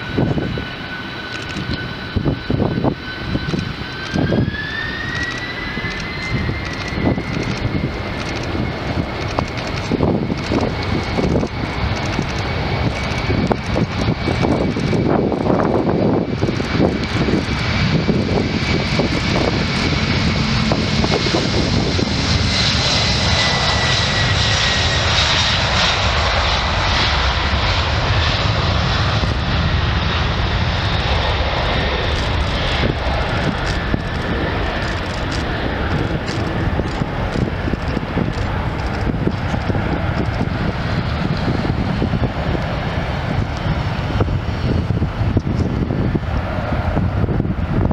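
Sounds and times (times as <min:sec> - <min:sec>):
jet engines roaring at takeoff: 0:00.0 - 0:47.9.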